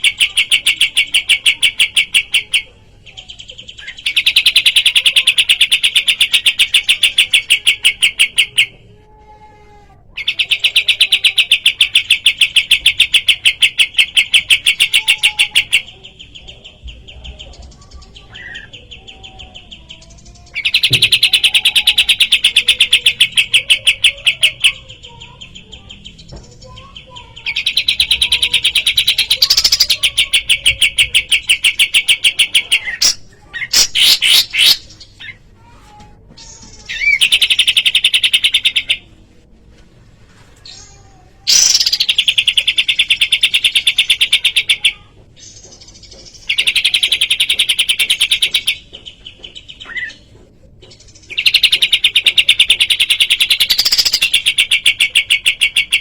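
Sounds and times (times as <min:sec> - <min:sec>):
soft bird chirps and warbles: 0:00.0 - 0:56.0.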